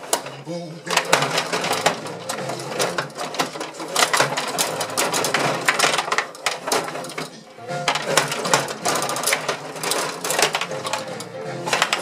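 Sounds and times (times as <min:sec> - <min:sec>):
plastic players clacking: 0:00.0 - 0:12.0.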